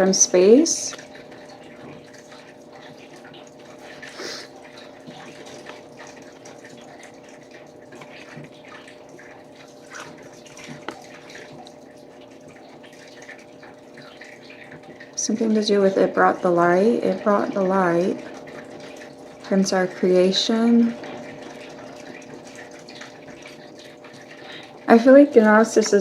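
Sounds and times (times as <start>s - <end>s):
faint hum: 0.0s - 26.0s
low water-like trickling: 0.0s - 26.0s.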